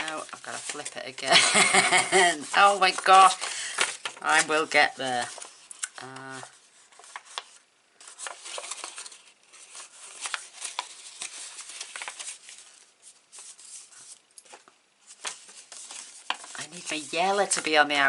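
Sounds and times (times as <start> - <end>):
paper rustling and crinkling: 0.0 - 18.0.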